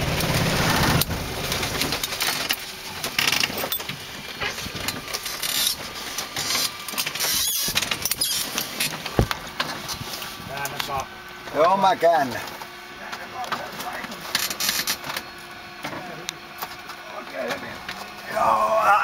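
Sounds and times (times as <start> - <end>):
aircraft engine running: 0.0 - 18.2.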